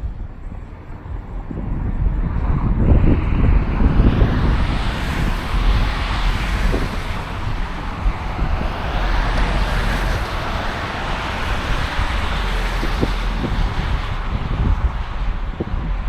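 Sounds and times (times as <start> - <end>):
road traffic noise: 0.0 - 16.0
vehicle passing: 0.0 - 16.0
wind buffeting microphone: 0.0 - 16.0.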